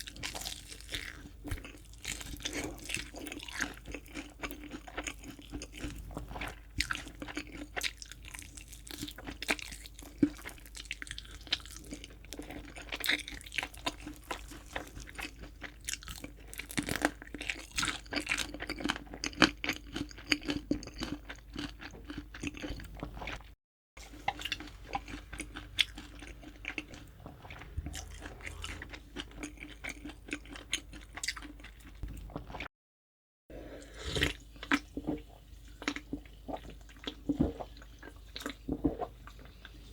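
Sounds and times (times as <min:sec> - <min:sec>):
crunching and chewing fried chicken: 0:00.0 - 0:32.7, 0:33.8 - 0:39.9.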